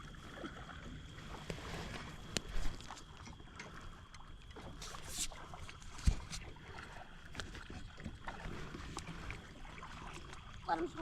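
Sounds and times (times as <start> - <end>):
faint water: 0.0 - 11.0
wind: 0.0 - 11.0.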